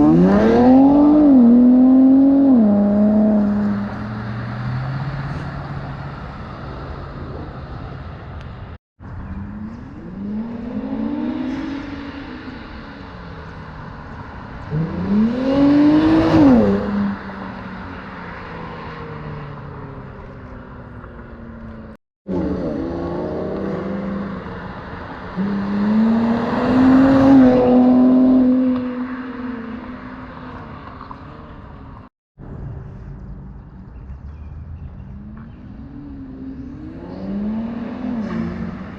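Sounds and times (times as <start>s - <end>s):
car engine revving: 0.0s - 7.5s, 9.3s - 20.6s, 22.3s - 31.8s, 34.8s - 38.9s.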